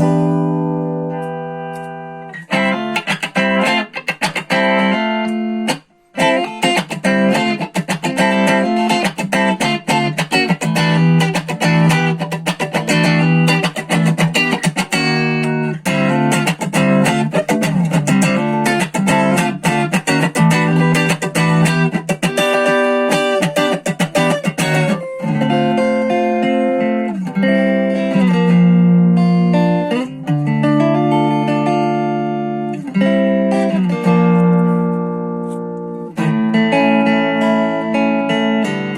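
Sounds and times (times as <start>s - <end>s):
electric guitar through amp: 0.0s - 38.9s.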